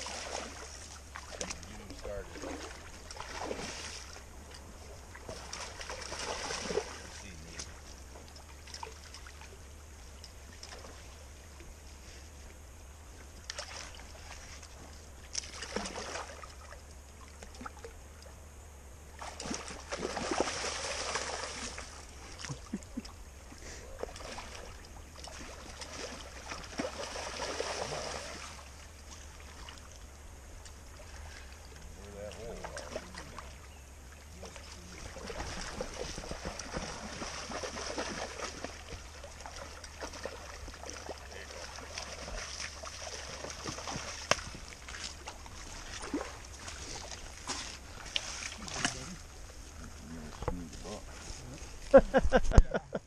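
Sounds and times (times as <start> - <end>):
water splashing and sloshing: 0.0 - 52.8
steady low hum: 0.0 - 53.0.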